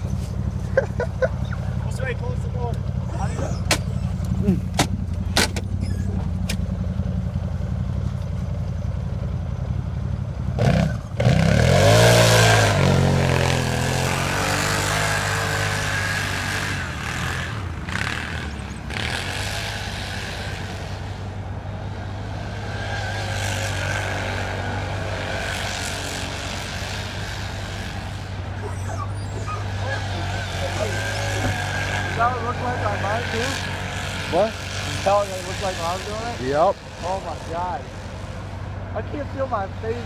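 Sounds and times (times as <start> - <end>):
vehicle engine revving: 0.0 - 40.0.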